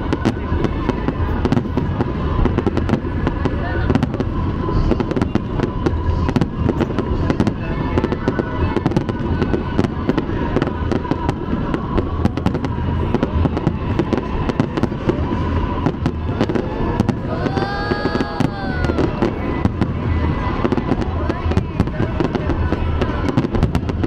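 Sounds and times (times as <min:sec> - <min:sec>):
fireworks cracking and banging: 0:00.0 - 0:24.0.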